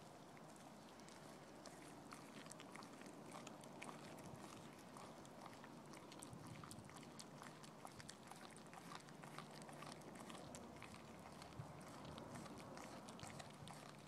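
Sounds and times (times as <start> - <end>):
dog chewing: 0.0 - 14.0.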